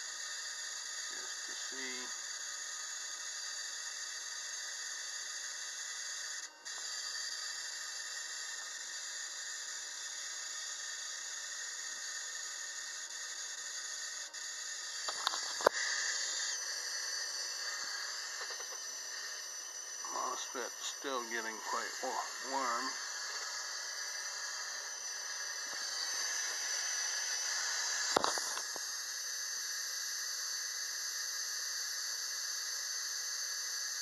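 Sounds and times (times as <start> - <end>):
ignition coil sparking hiss: 0.0 - 34.0.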